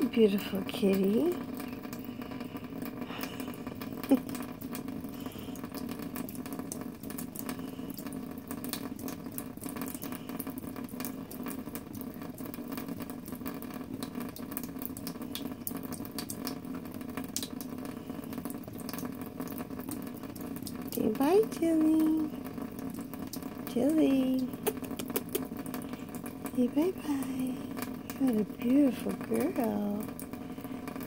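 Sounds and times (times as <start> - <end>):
tap water running into sink: 0.0 - 31.0.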